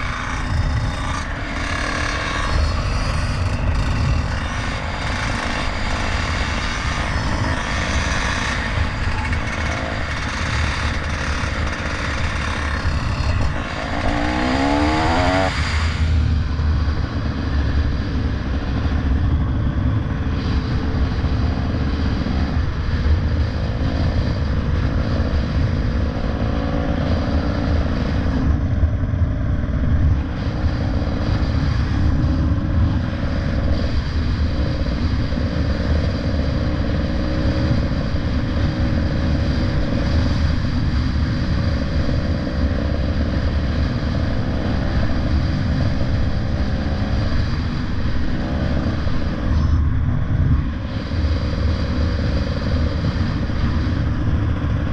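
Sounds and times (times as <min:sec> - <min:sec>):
bike riding rumble: 0:00.0 - 0:54.9
wind and road noise: 0:00.0 - 0:54.9.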